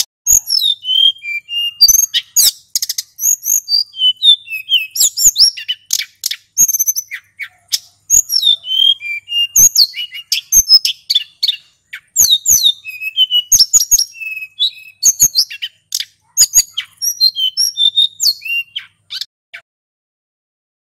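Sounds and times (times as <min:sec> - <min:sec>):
bird singing high chirps: 0:00.3 - 0:19.3.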